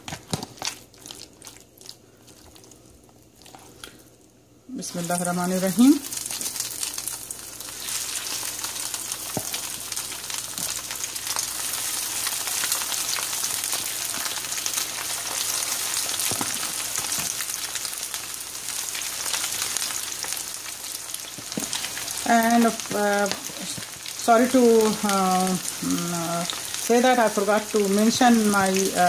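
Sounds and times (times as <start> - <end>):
chicken frying in hot oil: 4.7 - 29.0.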